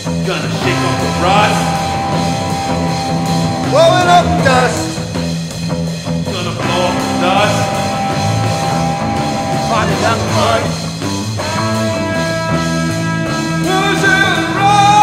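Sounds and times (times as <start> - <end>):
electric guitar riff: 0.0 - 15.0
rock band music: 0.0 - 15.0.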